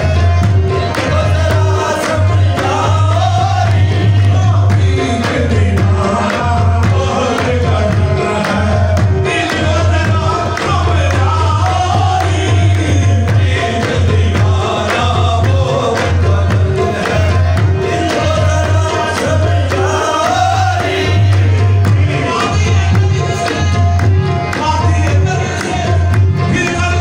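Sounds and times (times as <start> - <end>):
percussion beat: 0.0 - 27.0
voices singing with chorus: 0.0 - 27.0.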